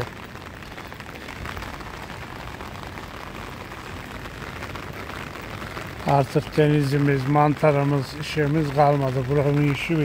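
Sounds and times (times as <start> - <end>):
rain on paved street: 0.0 - 10.0.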